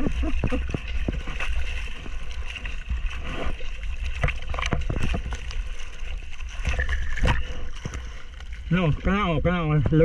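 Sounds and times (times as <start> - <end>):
sea water splashing: 0.0 - 10.0
water rumble on microphone: 0.0 - 10.0.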